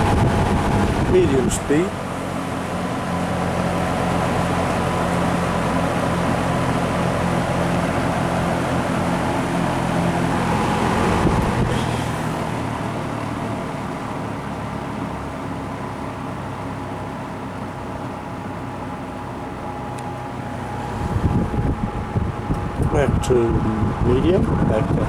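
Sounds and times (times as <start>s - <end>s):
box fan running: 0.0s - 25.0s.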